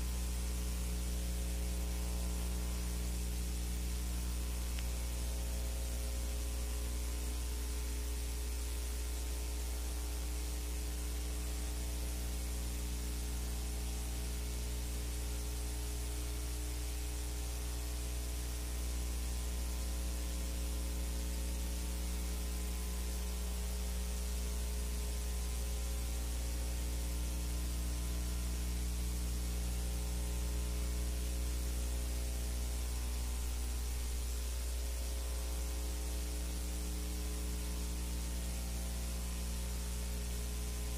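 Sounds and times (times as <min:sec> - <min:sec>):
constant hiss: 0:00.0 - 0:40.9
electrical mains hum: 0:00.0 - 0:40.9.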